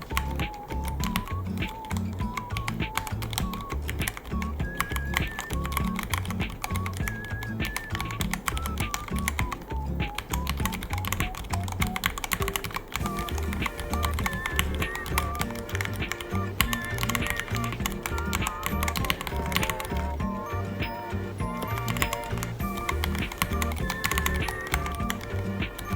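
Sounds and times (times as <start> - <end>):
background music: 0.0 - 25.9
mechanical keyboard typing: 0.0 - 25.9.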